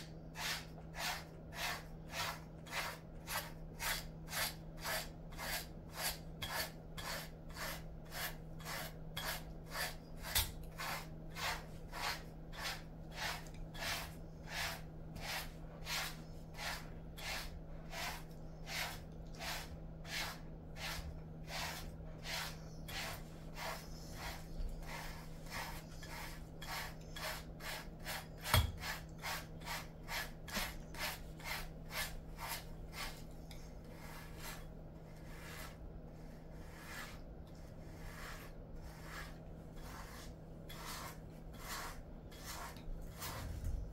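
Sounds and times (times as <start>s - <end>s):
brush raking through dog fur: 0.0s - 43.9s.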